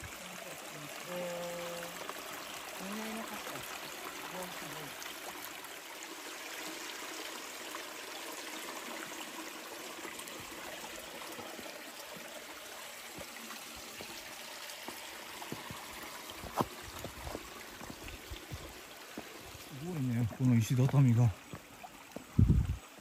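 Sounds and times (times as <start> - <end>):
mountain stream running: 0.0 - 23.0.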